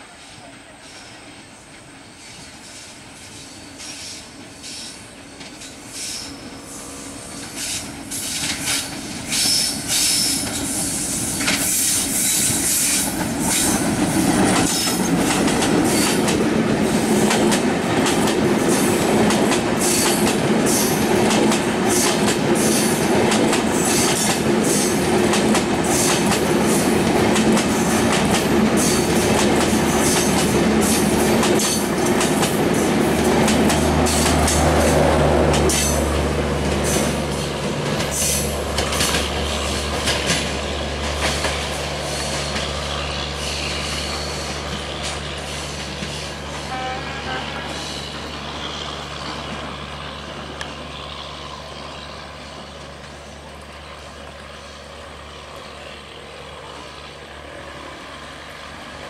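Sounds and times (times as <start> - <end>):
train rumbling past: 0.0 - 59.0
clickety-clack of train wheels: 0.2 - 6.4, 7.3 - 54.5.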